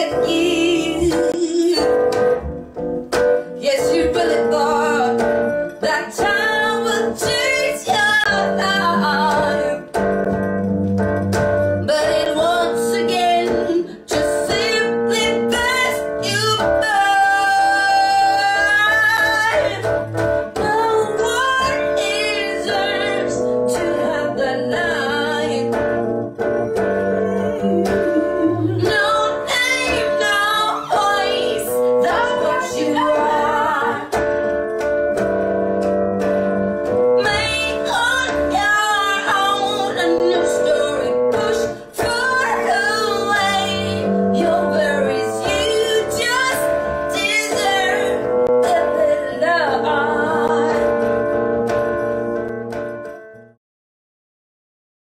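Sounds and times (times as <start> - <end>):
women singing with vibrato: 0.0 - 2.1, 3.6 - 9.9, 11.8 - 34.2, 37.2 - 51.4
instrumental accompaniment: 0.0 - 53.6.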